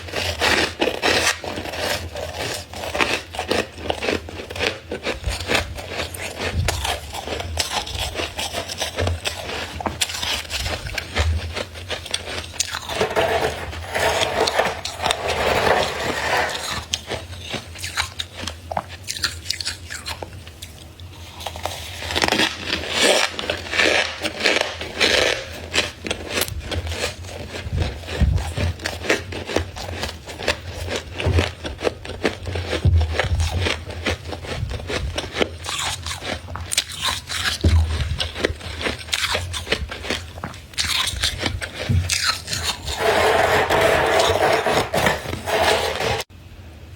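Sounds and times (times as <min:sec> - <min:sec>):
frost scraping and crunching: 0:00.0 - 0:46.3.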